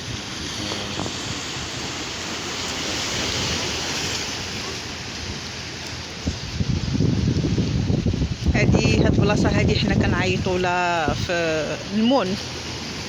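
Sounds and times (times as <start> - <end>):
surf washing against shore: 0.0 - 13.0
wind on microphone: 0.0 - 13.0.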